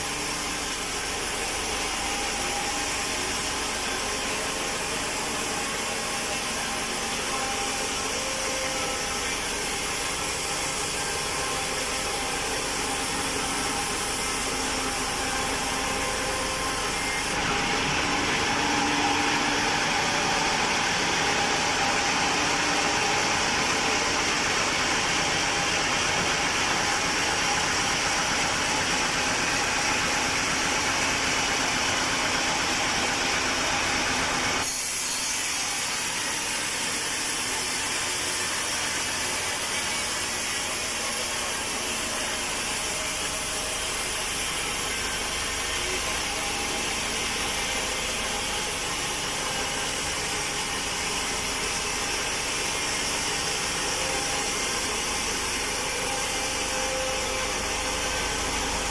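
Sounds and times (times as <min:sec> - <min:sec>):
sawmill saw cutting log: 0:00.0 - 0:58.9.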